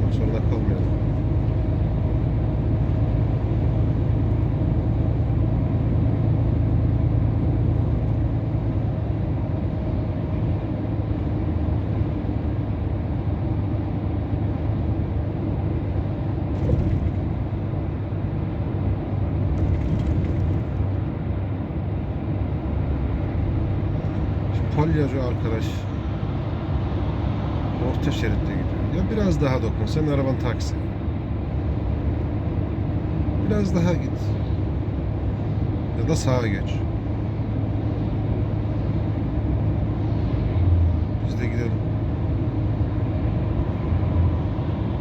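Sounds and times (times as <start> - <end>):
road rumble: 0.0 - 45.0
truck diesel engine drone: 0.0 - 45.0.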